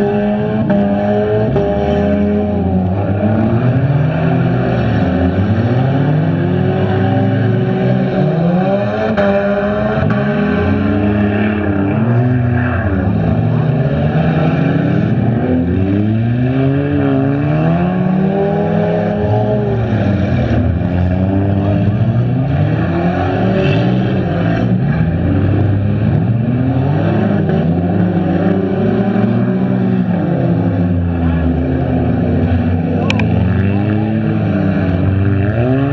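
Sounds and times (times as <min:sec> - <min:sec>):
race car engines revving: 0:00.0 - 0:35.9.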